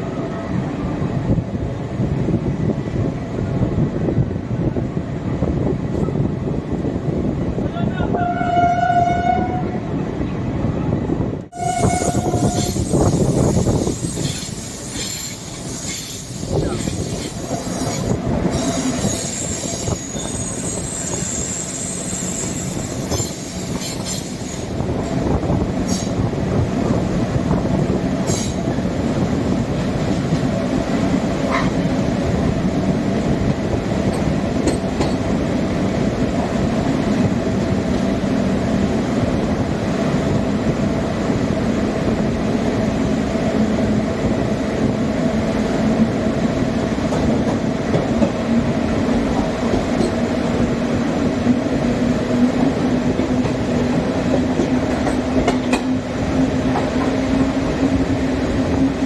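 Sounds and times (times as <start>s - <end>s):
train rail rumble: 0.0s - 59.0s.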